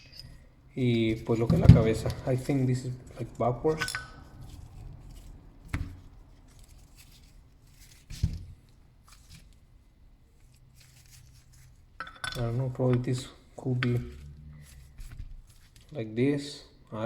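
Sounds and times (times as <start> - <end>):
metal parts being handled: 0.0 - 9.5, 10.8 - 16.0.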